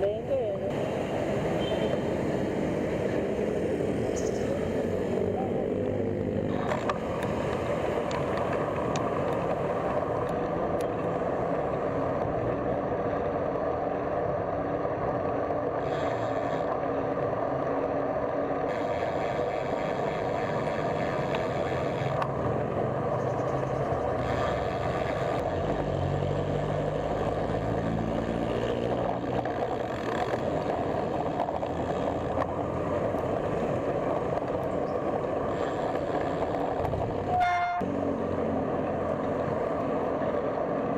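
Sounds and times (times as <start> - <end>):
road traffic noise: 0.0 - 40.9
wind: 0.0 - 40.9
vehicle engine accelerating: 2.0 - 40.9.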